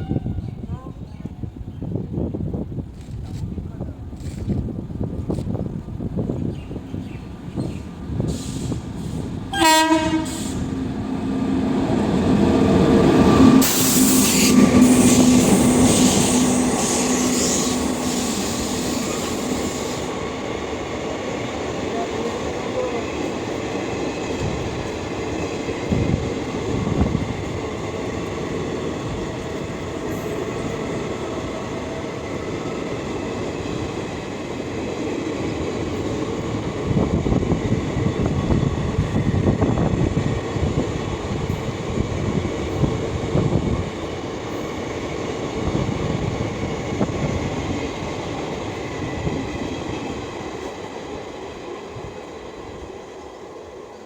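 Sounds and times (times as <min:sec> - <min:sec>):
train wheels rumbling and clattering: 0:01.9 - 0:54.0.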